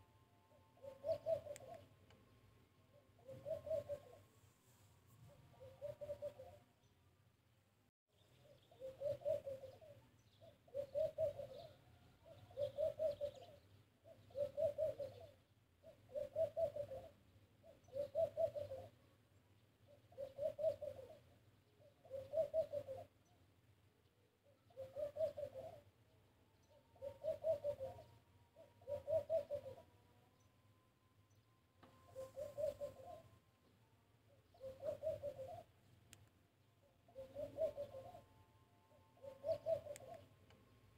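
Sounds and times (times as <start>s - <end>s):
dove cooing: 0.0s - 2.1s, 2.9s - 4.4s, 5.2s - 6.8s, 8.4s - 19.2s, 19.8s - 23.3s, 24.2s - 30.5s, 31.3s - 35.8s, 36.8s - 40.5s.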